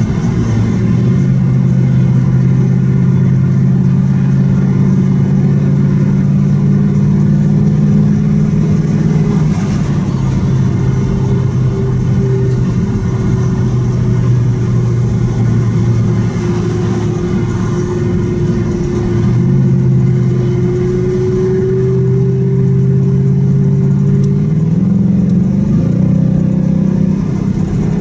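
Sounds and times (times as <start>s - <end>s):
car engine drone: 0.0s - 28.0s
tyre and road noise: 0.0s - 28.0s.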